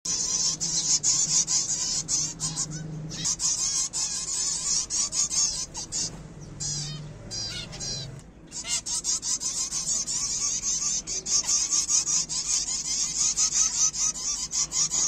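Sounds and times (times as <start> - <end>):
finches chattering: 0.1 - 15.0.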